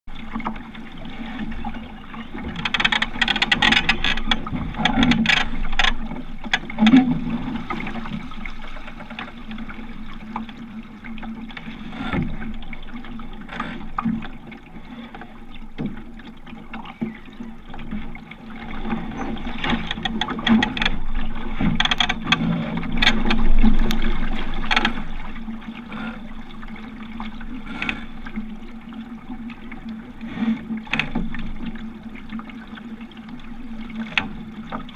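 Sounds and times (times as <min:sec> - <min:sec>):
water lapping against a boat: 0:00.0 - 0:34.9.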